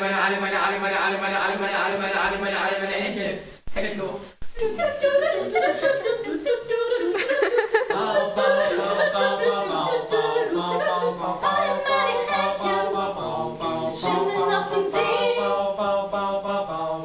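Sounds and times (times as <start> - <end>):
voices singing a cappella: 0.0 - 17.0.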